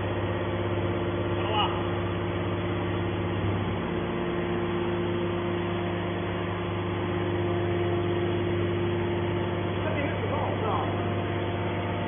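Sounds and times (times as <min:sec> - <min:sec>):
hydraulic pump humming and whining: 0:00.0 - 0:12.0.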